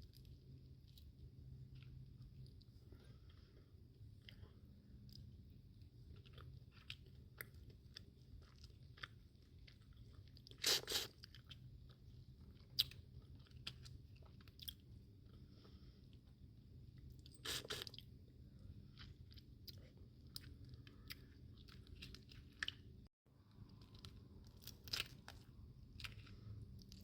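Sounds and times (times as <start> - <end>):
chewing and crunching shells: 0.0 - 27.0.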